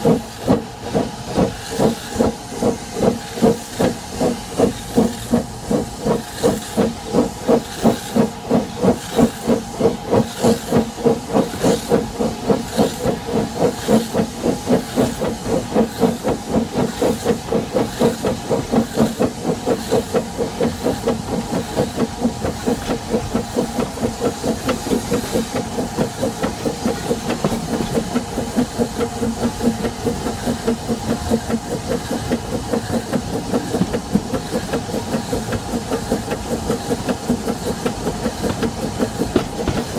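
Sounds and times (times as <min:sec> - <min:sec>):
steam hissing: 0:00.0 - 0:39.9
steam locomotive exhaust beats: 0:00.0 - 0:39.9.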